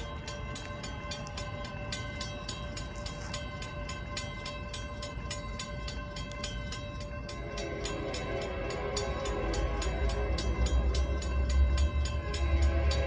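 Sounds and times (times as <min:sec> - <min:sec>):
crossing warning bells ringing: 0:00.0 - 0:13.0.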